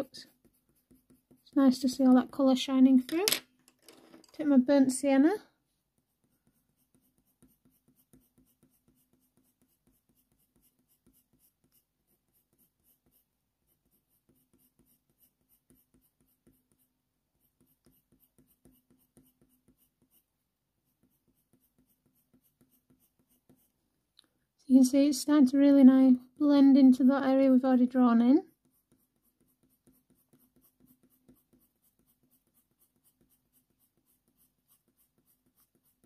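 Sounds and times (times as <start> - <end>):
coloured pencil scratching on paper: 0.0 - 3.0, 4.8 - 23.8, 24.8 - 36.0.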